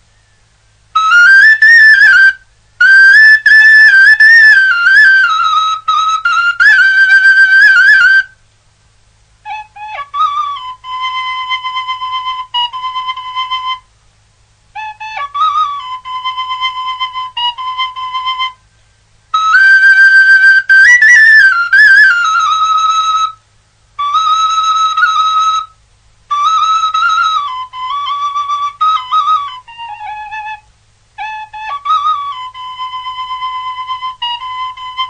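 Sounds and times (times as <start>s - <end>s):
solo flute melody: 0.0s - 8.4s, 9.4s - 13.9s, 14.7s - 35.0s.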